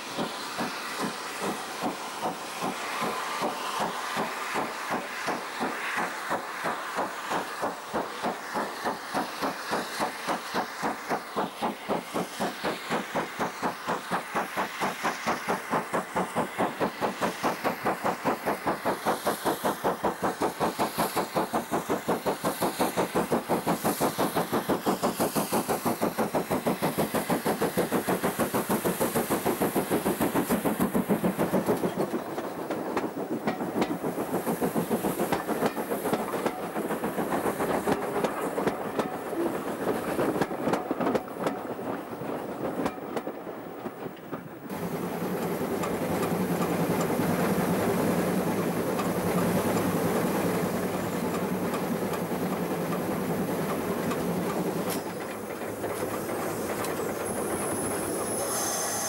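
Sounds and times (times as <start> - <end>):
steam locomotive chuffing: 0.0 - 59.0
train wheels clattering over rail joints: 0.0 - 59.0.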